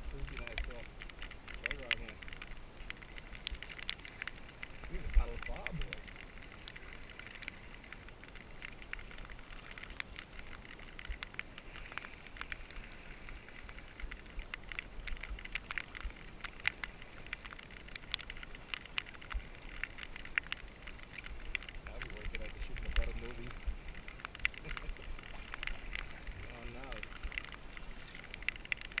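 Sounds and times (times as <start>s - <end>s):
low uneven rumble: 0.0s - 29.0s
paddle strokes splashing water: 0.0s - 29.0s
water dripping off paddle: 0.0s - 29.0s.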